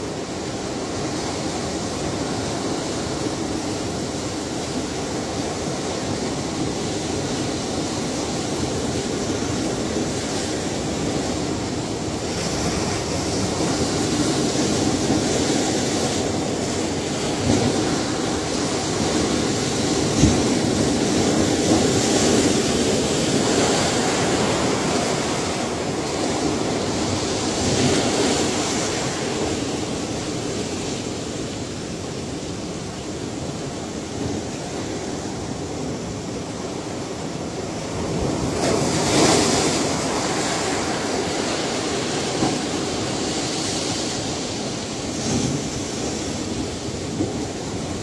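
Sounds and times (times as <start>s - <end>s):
ocean waves breaking on shore: 0.0s - 48.0s.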